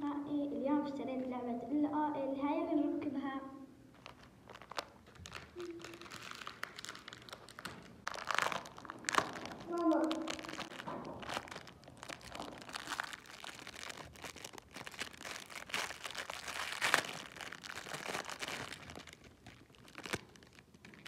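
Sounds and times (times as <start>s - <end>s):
plastic packaging crinkling: 3.9s - 21.0s
bags torn open by hand: 4.0s - 21.0s.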